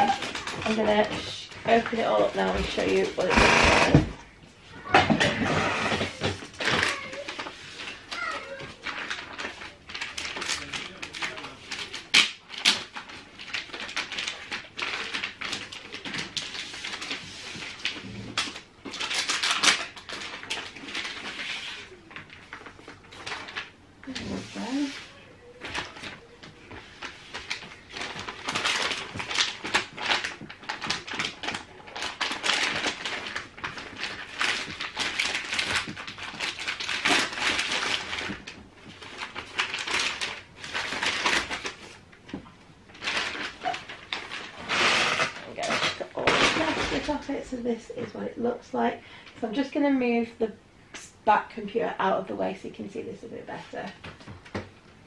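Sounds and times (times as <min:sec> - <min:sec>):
plastic film rustling and crinkling: 0:00.0 - 0:55.0.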